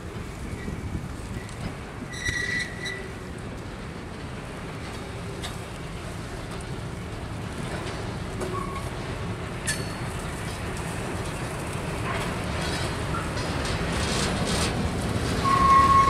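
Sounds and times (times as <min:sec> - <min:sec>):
train cars rumbling on rails: 0:00.0 - 0:16.0.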